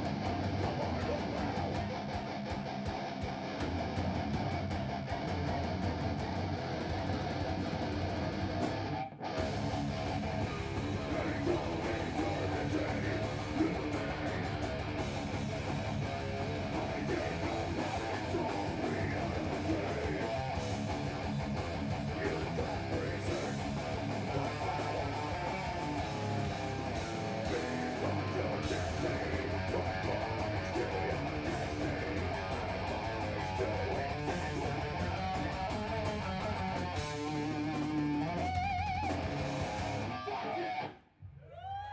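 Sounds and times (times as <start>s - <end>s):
heavy metal band playing live: 0.0s - 40.9s
bass guitar: 0.0s - 41.9s
electric guitar: 0.0s - 41.9s.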